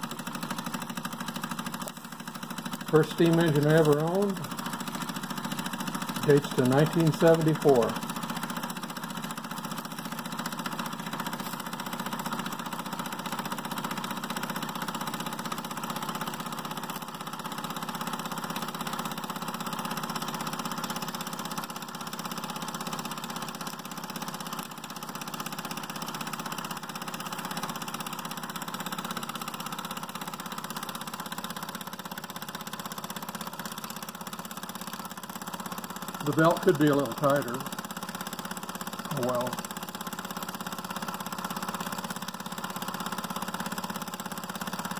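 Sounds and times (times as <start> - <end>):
toy steam engine running: 0.0 - 44.9.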